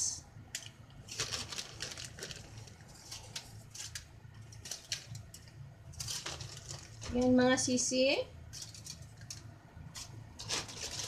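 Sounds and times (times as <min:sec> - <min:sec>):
plastic bag crinkling: 0:01.0 - 0:07.6, 0:08.5 - 0:11.0.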